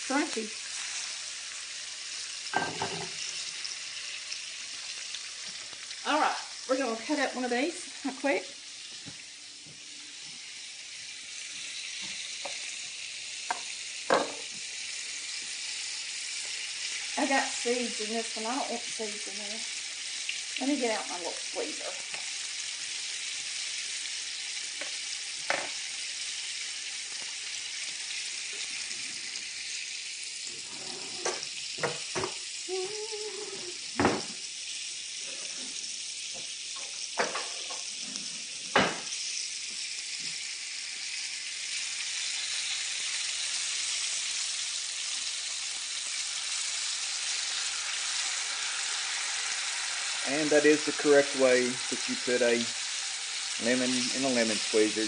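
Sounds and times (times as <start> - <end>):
fish sizzling in a skillet: 0.0 - 55.0.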